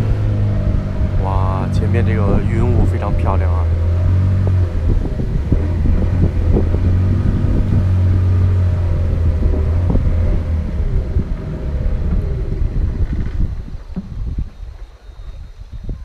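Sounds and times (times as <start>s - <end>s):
outboard motor humming: 0.0s - 14.8s.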